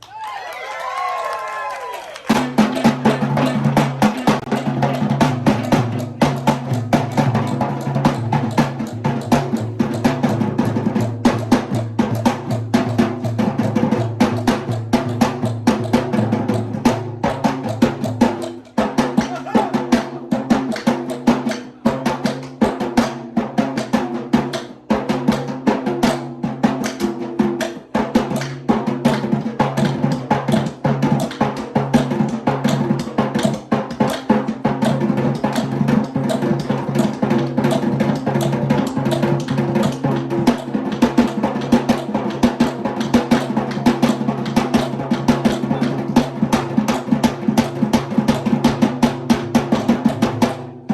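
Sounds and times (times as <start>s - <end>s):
drum ensemble playing fast rhythm: 2.2s - 50.9s.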